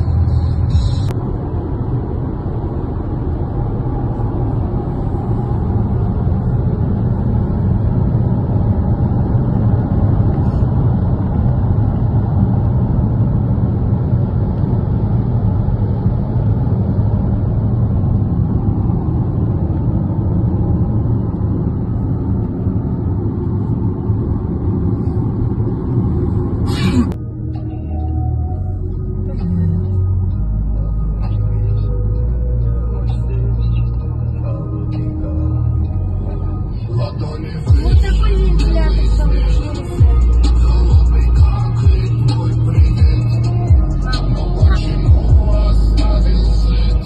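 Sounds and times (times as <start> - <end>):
car cabin road noise: 0.0 - 47.0.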